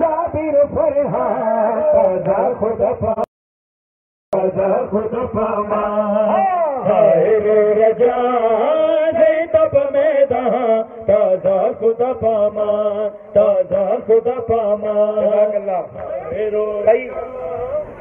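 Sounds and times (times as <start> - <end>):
men chanting a lament: 0.0 - 3.3, 4.4 - 18.0.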